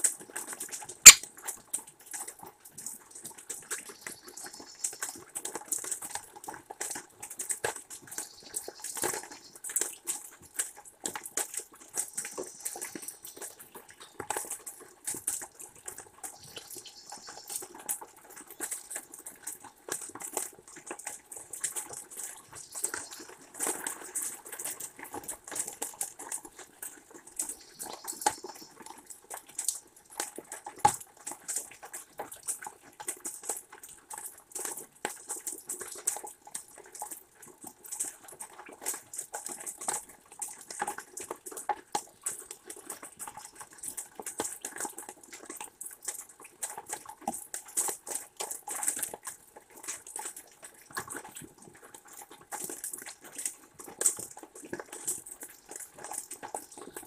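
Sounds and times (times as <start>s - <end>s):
rain dripping and pattering: 0.0s - 57.0s.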